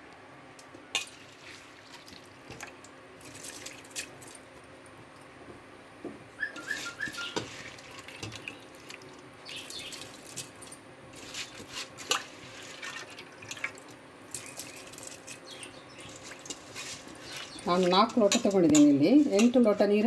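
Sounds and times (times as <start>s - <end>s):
water boiling and bubbling: 1.0s - 5.6s, 6.8s - 18.4s.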